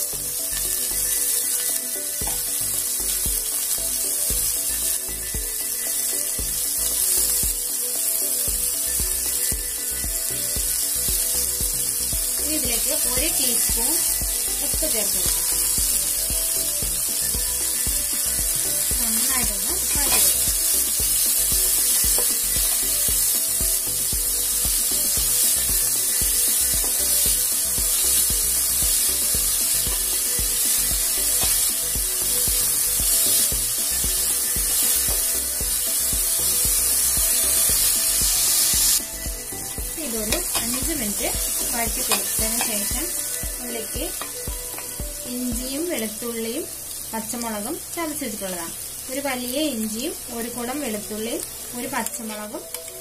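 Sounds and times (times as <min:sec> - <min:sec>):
onions sizzling in hot oil: 0:00.0 - 0:53.0.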